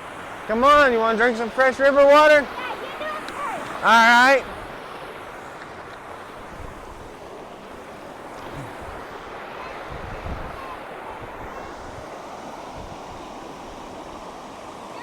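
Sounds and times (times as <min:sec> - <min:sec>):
wind buffeting microphone: 0:00.0 - 0:14.4
river and waterfall rushing: 0:00.0 - 0:15.0.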